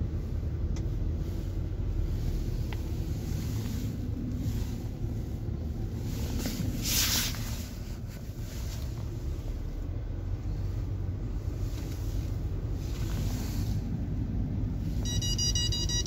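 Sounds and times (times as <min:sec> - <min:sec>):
low cabin rumble: 0:00.0 - 0:16.0.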